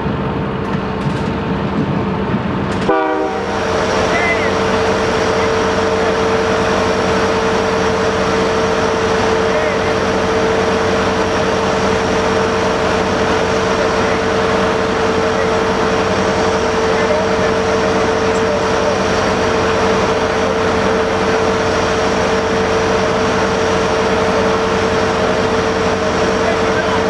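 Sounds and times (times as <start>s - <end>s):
diesel locomotive idling: 0.0s - 27.0s.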